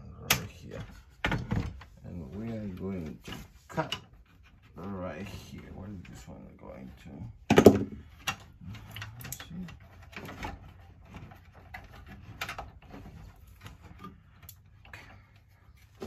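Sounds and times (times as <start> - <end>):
wires and connectors rattling: 0.2 - 16.0.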